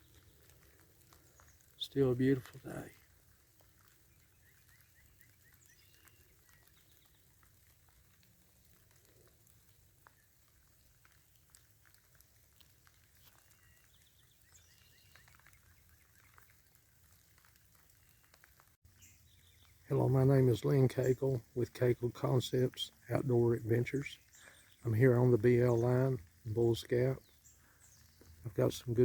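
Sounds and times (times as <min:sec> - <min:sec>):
distant bird chirps: 0:00.0 - 0:11.6, 0:12.5 - 0:29.0
faint rain patter: 0:00.0 - 0:29.0.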